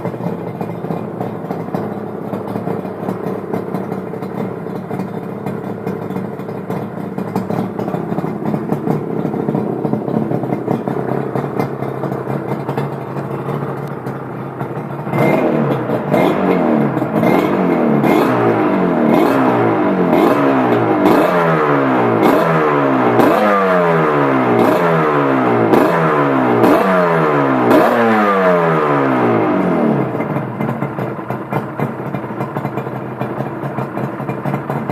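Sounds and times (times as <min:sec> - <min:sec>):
motorcycle engine idling: 0:00.0 - 0:34.9
motorcycle engine revving: 0:00.0 - 0:34.9.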